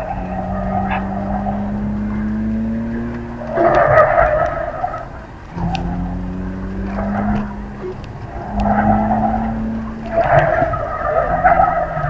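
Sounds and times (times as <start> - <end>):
car engine under throttle: 0.0 - 12.0
tyres squealing: 0.0 - 12.0.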